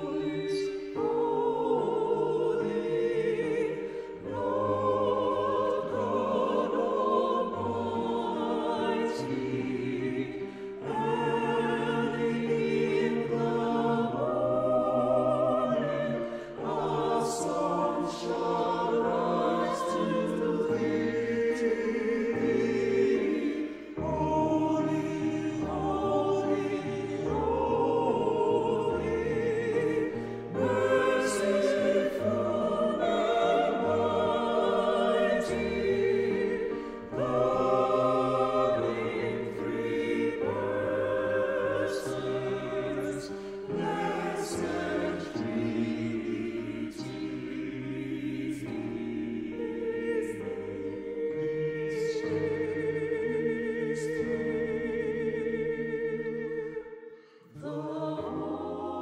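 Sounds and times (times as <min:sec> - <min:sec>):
piano accompaniment: 0:00.0 - 0:55.8
choir singing in harmony: 0:00.0 - 0:59.0.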